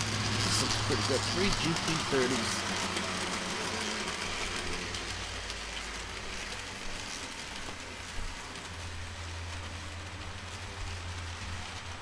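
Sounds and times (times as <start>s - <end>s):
model train wheels rattling on rails: 0.0s - 12.0s.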